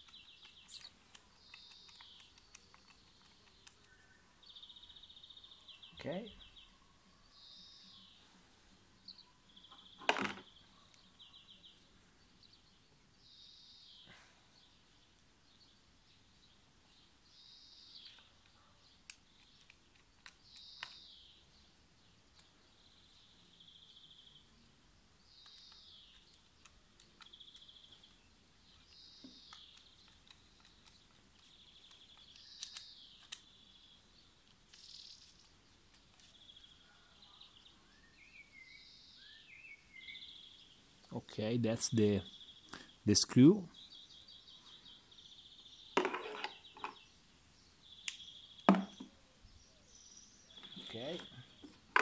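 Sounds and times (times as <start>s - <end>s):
faint bird chirps and trills: 0.0s - 52.0s.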